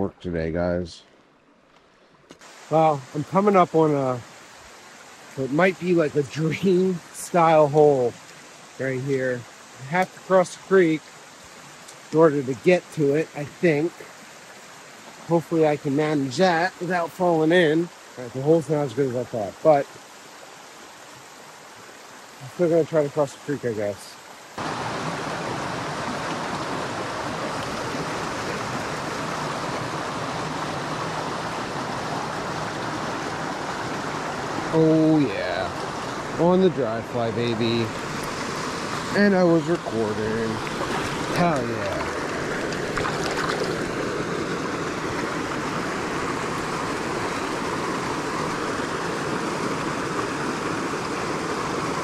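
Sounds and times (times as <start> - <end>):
creek rushing over rocks: 2.4 - 52.0.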